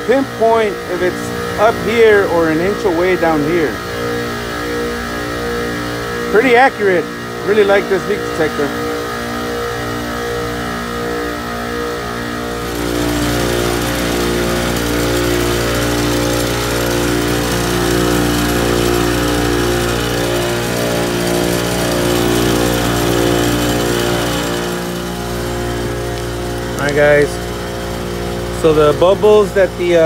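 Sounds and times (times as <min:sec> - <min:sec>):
refrigeration compressor hum: 0:00.0 - 0:30.0.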